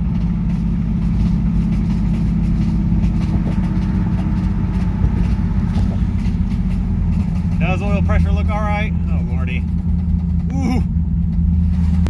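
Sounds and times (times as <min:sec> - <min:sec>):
car engine idling: 0:00.0 - 0:12.0
rapid engine knocking: 0:00.0 - 0:12.0.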